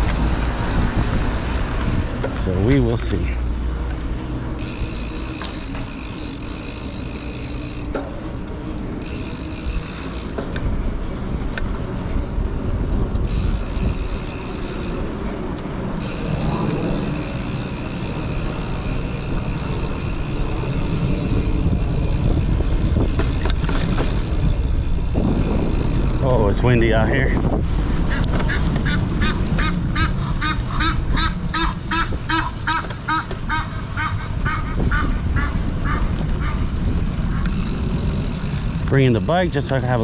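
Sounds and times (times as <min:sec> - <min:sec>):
bike rolling on concrete: 0:00.0 - 0:40.0
freewheel hub buzzing: 0:00.0 - 0:40.0
wind rumbling on microphone: 0:00.0 - 0:40.0.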